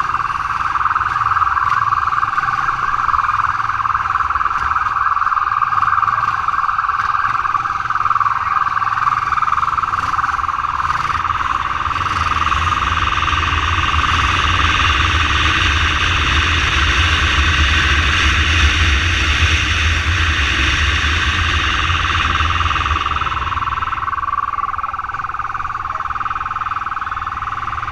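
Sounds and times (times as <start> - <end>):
motorcycle engine and road rumble: 0.0 - 27.9
steady high-pitched squeal: 0.0 - 27.9.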